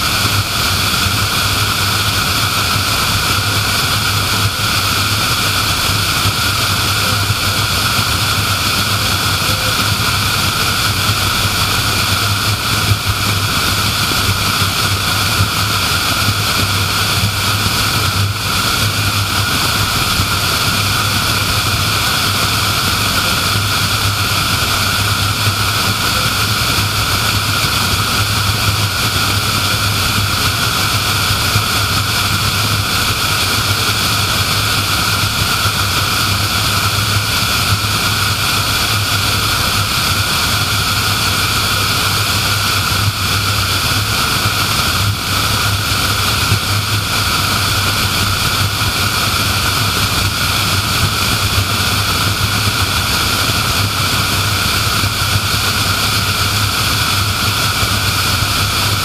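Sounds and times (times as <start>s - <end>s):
constant low hum: 0.0s - 59.0s.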